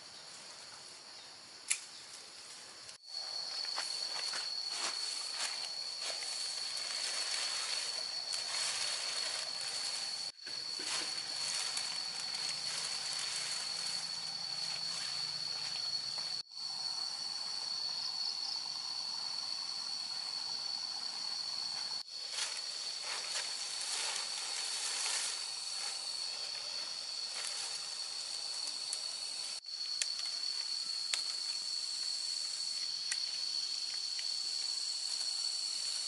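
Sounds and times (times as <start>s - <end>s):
background hiss: 0.0s - 36.0s
high-pitched insect drone: 3.0s - 36.0s.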